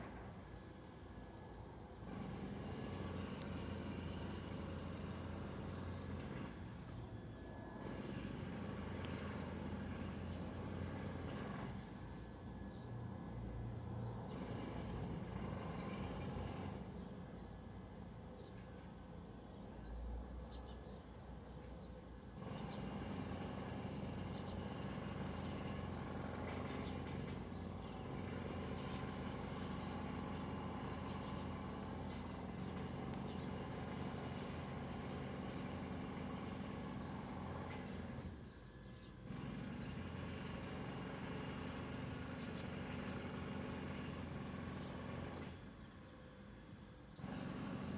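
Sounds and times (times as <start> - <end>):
low mechanical hum: 0.0 - 47.9.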